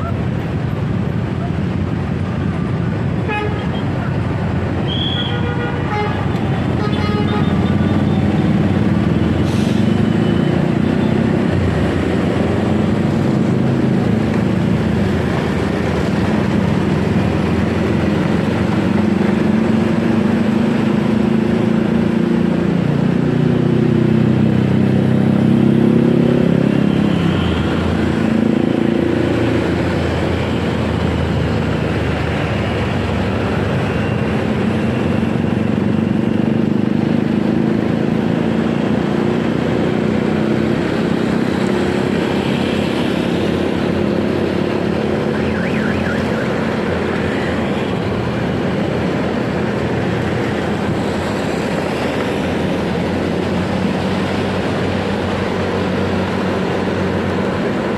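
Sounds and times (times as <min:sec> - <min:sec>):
road and wind noise: 0:00.0 - 0:57.9
traffic: 0:00.0 - 0:57.9.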